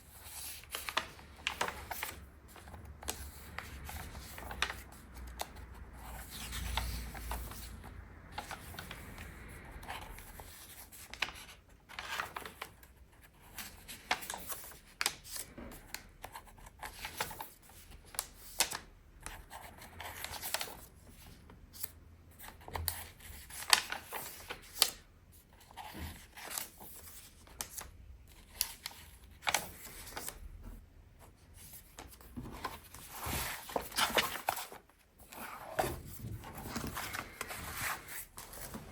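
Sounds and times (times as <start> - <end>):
paper pages rustling: 0.0 - 38.9.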